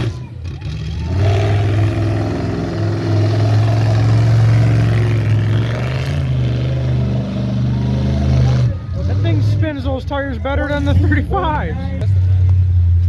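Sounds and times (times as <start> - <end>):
truck engine running under load: 0.0 - 13.0.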